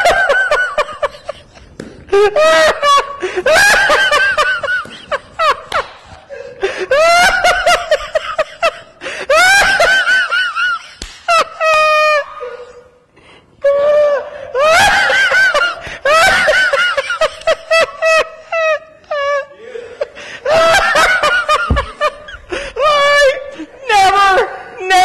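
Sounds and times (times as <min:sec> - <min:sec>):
man laughing uncontrollably: 0:00.0 - 0:12.7, 0:13.8 - 0:23.8.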